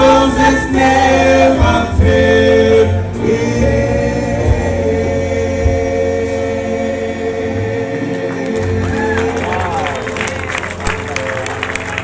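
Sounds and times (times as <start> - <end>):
gospel choir holding a chord: 0.0 - 12.0
low accompaniment: 0.0 - 12.0.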